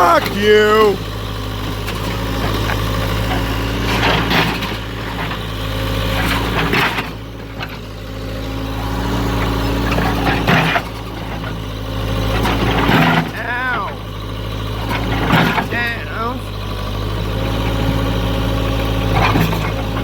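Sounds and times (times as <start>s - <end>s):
loader engine running: 0.0s - 20.0s.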